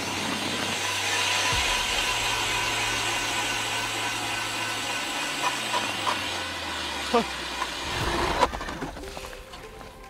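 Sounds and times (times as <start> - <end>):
blades grinding through ice: 0.0 - 10.0
ice auger motor hum: 0.0 - 10.0.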